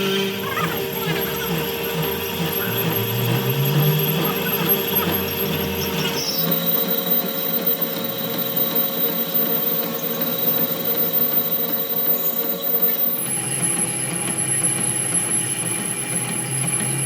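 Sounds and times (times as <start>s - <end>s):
workshop machine humming and rattling: 0.0s - 17.0s.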